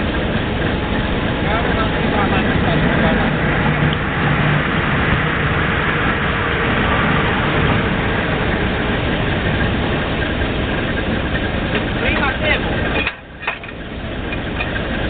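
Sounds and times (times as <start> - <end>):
dense mechanical noise: 0.0 - 15.0
drilling rig engine running: 0.0 - 15.0.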